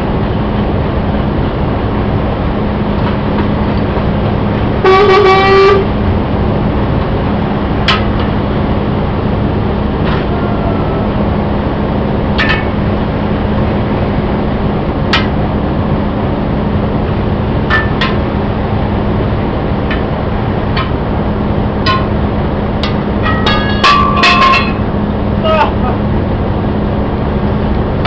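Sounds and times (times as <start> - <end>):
steady low hum: 0.0 - 28.0
tire iron clanking on wheel rim: 2.8 - 25.7.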